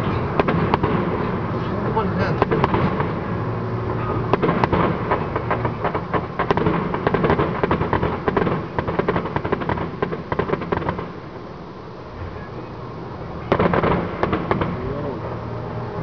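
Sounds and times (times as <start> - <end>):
fireworks bangs and crackling pops: 0.0 - 3.6, 4.2 - 11.5, 13.4 - 15.4.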